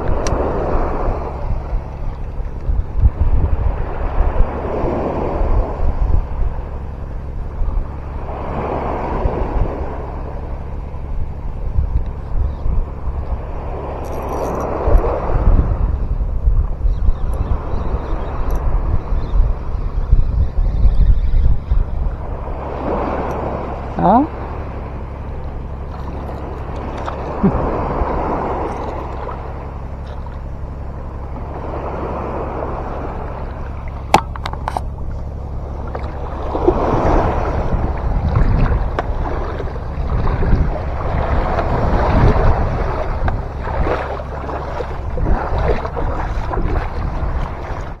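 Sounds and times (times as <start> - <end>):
water rushing and splashing: 0.0 - 12.2, 21.6 - 48.0
boat engine hum: 0.0 - 48.0
wind on microphone: 0.0 - 48.0.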